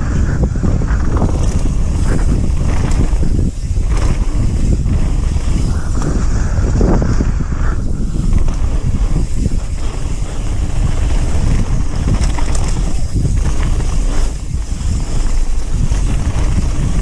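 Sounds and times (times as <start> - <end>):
bike rattles and clicks: 0.0 - 17.0
tyres rumbling on dirt: 0.0 - 17.0
wind buffeting microphone: 0.0 - 17.0.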